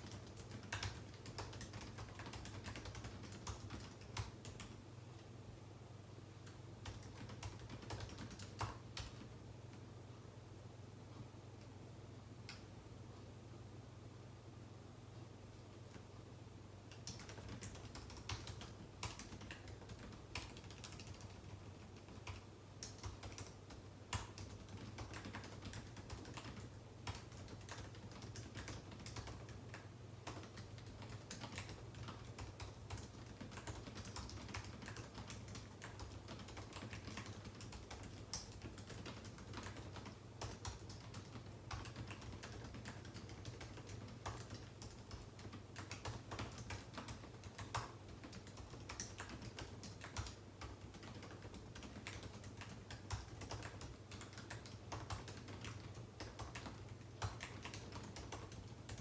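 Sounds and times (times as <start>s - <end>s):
typing on computer keyboard: 0.0s - 4.8s, 6.4s - 9.4s, 16.9s - 59.0s.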